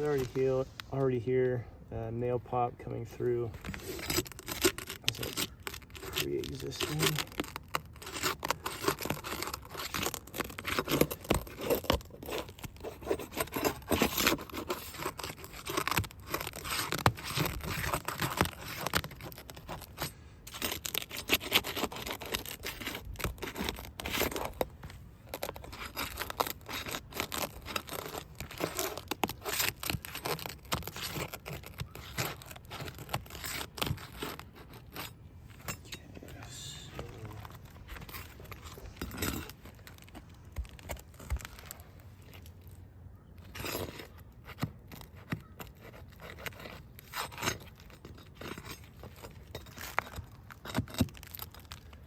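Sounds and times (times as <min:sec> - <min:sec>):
roof shingles scraping and tearing: 0:03.3 - 0:35.7, 0:36.4 - 0:52.0.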